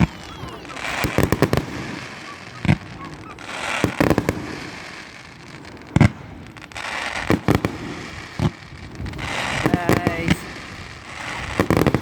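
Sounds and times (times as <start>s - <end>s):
crackling hiss of fireworks: 0.0s - 12.0s
firework bangs: 0.0s - 12.0s.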